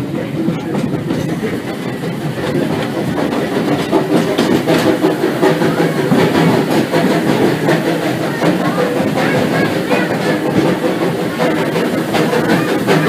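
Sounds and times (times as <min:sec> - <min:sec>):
train rumbling over track: 0:00.0 - 0:13.0
wheels clacking over rail joints: 0:00.0 - 0:13.0.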